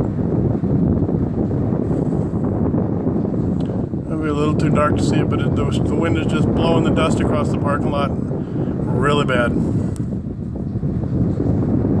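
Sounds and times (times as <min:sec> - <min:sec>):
wind buffeting a glass door: 0:00.0 - 0:12.0.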